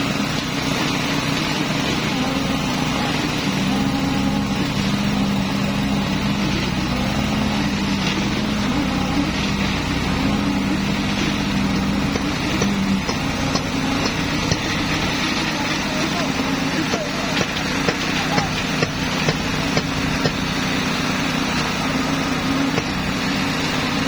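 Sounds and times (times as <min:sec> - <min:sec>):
concrete machinery engine running: 0:00.0 - 0:24.0
steady hum: 0:00.0 - 0:24.0.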